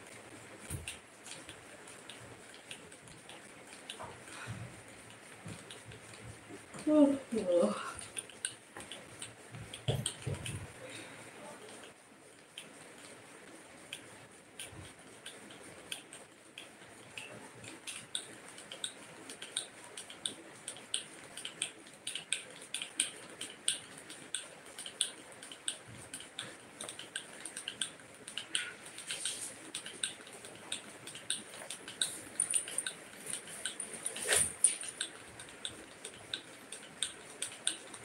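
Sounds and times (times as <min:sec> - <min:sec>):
hand fan clicking: 0:00.0 - 0:38.0.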